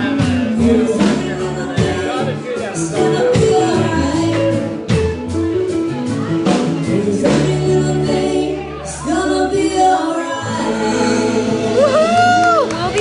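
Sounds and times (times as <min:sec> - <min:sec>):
person singing: 0:00.0 - 0:05.2, 0:06.5 - 0:13.0
live band playing: 0:00.0 - 0:13.0.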